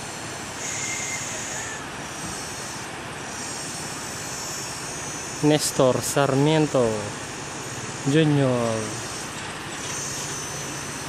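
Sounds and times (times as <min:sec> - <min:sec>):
motorcycle engine drone: 0:00.0 - 0:11.0
thin high whine: 0:00.0 - 0:11.0.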